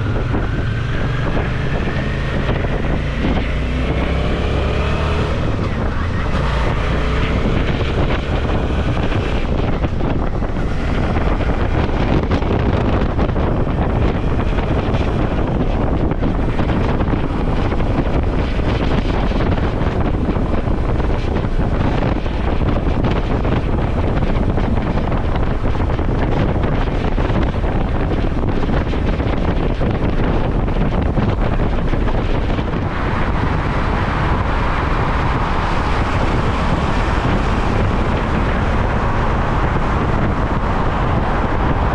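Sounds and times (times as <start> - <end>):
motorcycle engine: 0.0 - 41.9
wind rushing over microphone: 0.0 - 41.9.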